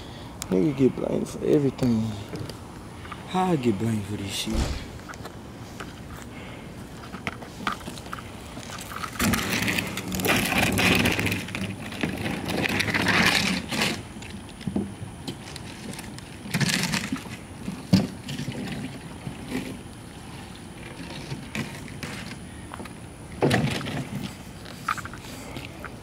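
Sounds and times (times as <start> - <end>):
cooler wheels rumbling on asphalt: 5.1 - 26.0.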